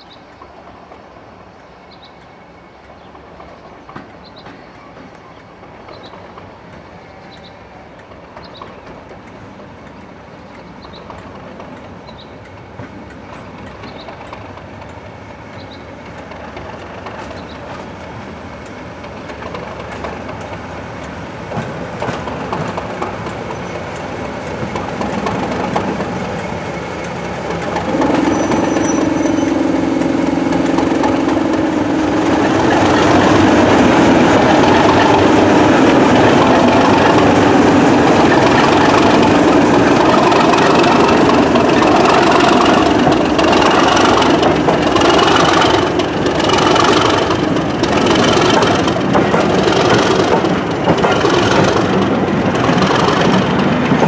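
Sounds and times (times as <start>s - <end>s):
train wheels clattering over rail joints: 2.8s - 54.0s.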